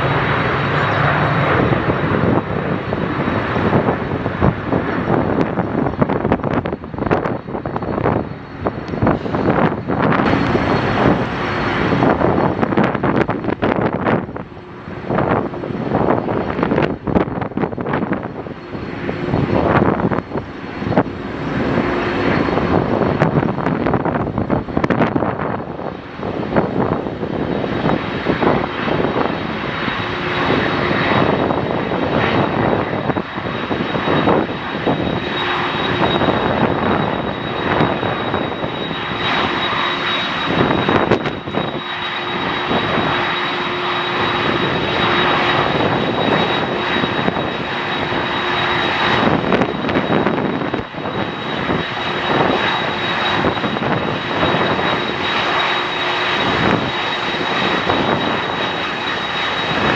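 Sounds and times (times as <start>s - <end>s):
airliner engines roaring: 0.0s - 59.9s.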